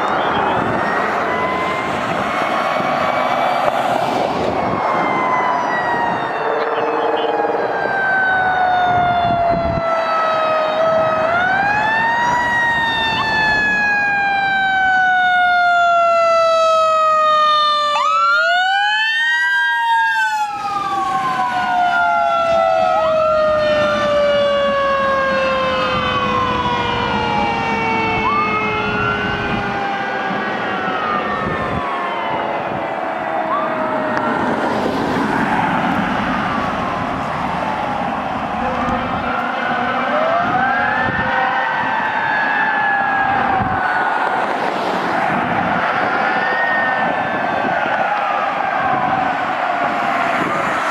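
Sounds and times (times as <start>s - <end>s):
electronic wail siren: 0.0s - 50.9s
mechanical siren moaning: 0.0s - 50.9s.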